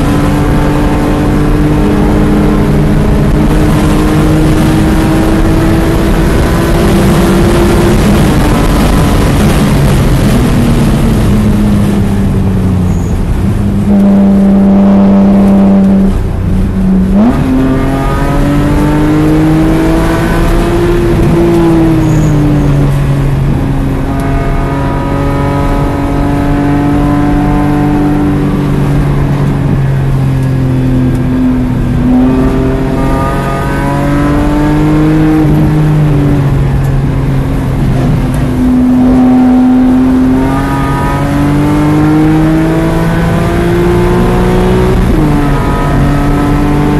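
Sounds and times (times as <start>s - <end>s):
car engine running hard: 0.0s - 46.9s.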